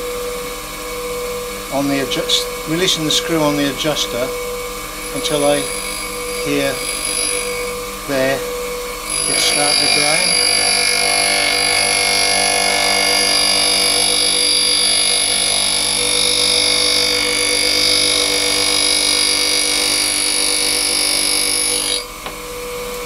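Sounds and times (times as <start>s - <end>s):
grinder motor hum: 0.0s - 23.0s
grinder wheel hissing grind: 0.0s - 23.0s.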